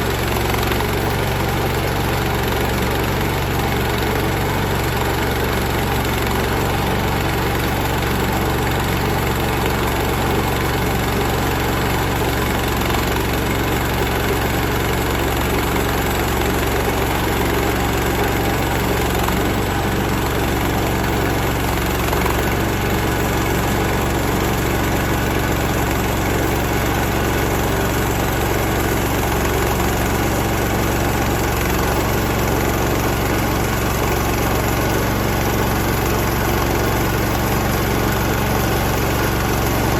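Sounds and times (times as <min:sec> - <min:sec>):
sawmill engine cutting log: 0:00.0 - 0:39.9.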